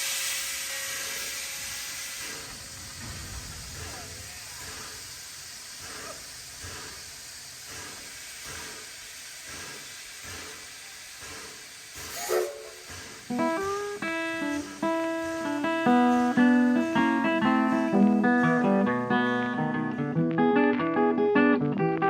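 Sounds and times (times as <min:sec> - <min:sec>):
steam hissing from locomotive: 0:00.0 - 0:20.1.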